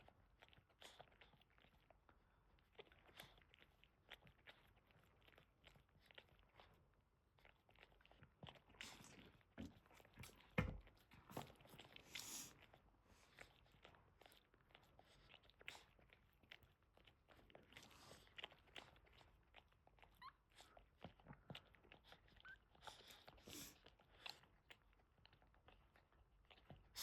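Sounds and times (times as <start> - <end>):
dog licking and smacking: 0.0 - 27.0.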